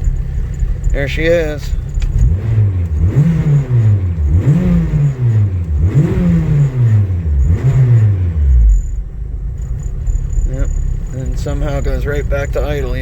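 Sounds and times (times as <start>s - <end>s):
car engine revving: 0.0s - 13.0s
engine idling: 0.0s - 13.0s.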